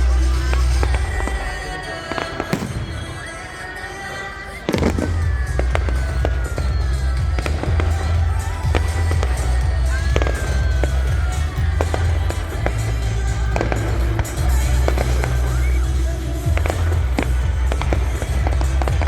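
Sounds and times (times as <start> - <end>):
fireworks bangs and crackles: 0.0 - 19.0
loud music with heavy bass: 0.0 - 19.0.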